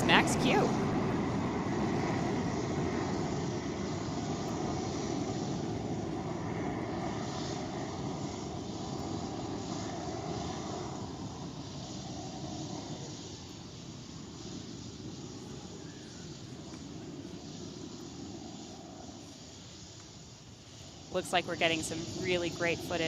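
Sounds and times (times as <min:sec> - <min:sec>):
rocket engines rumbling: 0:00.0 - 0:23.0.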